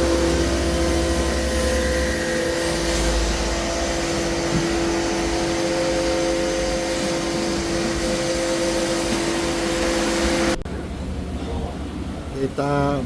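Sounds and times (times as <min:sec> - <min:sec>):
motor whirring with hum: 0:00.0 - 0:10.7.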